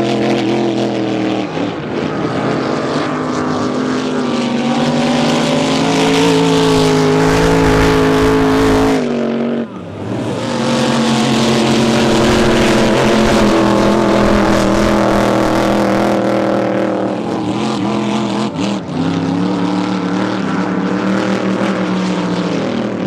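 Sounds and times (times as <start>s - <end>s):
racing boat engine running: 0.0s - 23.0s.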